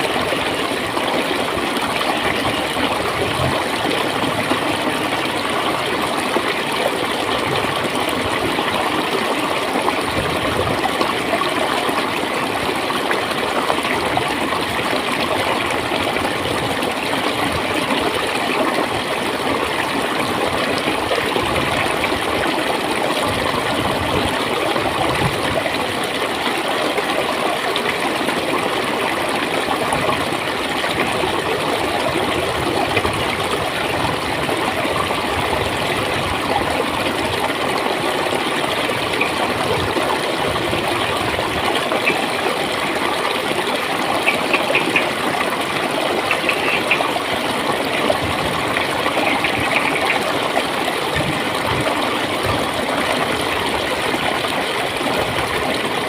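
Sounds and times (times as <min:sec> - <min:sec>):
stream gurgling: 0:00.0 - 0:56.0.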